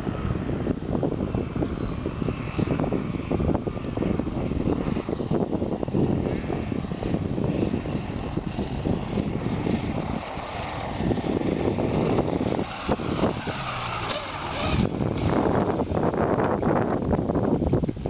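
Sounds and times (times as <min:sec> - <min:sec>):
microlight engine and propeller: 0:00.0 - 0:18.0
wind rumble on microphone: 0:00.0 - 0:18.0.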